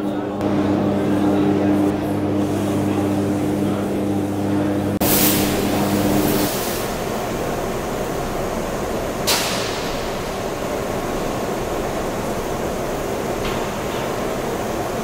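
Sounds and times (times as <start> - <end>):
arc furnace roaring: 0.0 - 15.0.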